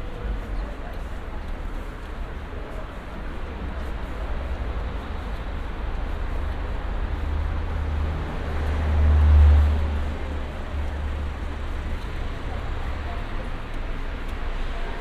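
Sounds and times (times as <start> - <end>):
road noise rumble: 0.0 - 15.0.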